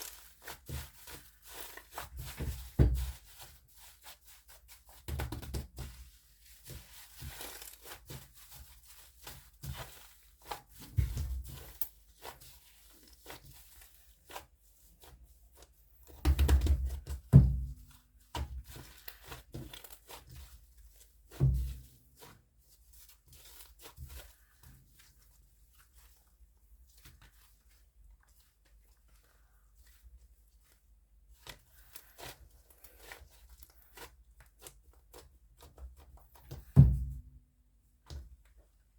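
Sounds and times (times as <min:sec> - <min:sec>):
slime squishes: 0:00.0 - 0:37.1.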